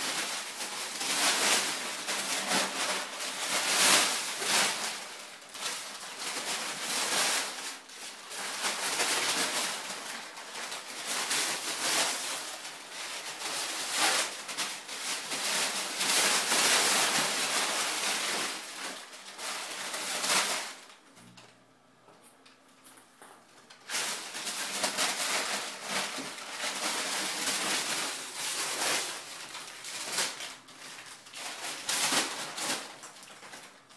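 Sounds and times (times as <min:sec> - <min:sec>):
packing paper crinkling and rustling: 0:00.0 - 0:21.4, 0:22.8 - 0:33.9.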